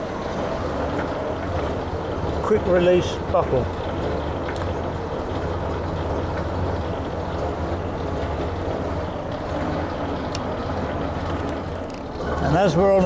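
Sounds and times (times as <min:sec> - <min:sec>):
fire engine idling: 0:00.0 - 0:13.0.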